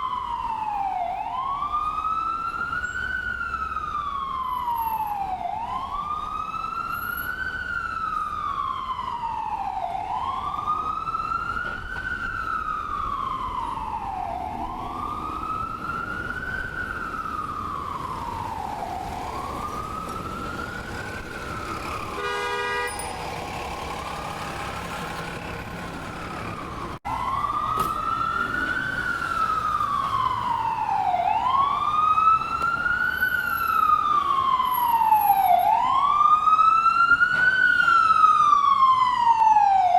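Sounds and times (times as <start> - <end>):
ambulance siren wailing: 0.0 - 39.9
steady siren blast: 0.0 - 39.9.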